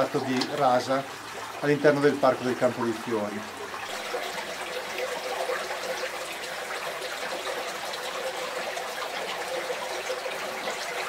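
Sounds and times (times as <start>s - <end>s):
water flowing over stones: 0.0s - 11.0s.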